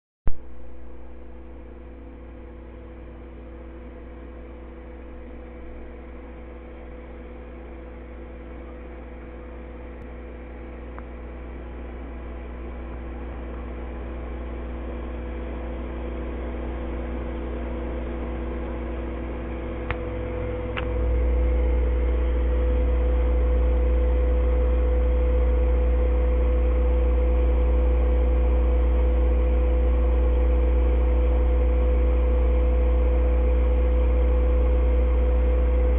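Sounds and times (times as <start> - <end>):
electrical hum: 0.3 - 35.9.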